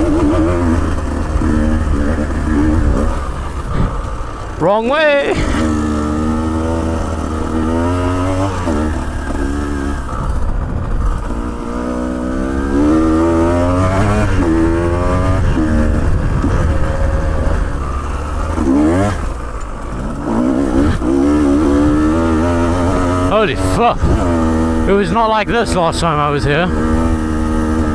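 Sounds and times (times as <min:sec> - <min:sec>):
motorbike engine revving: 0:00.0 - 0:27.9.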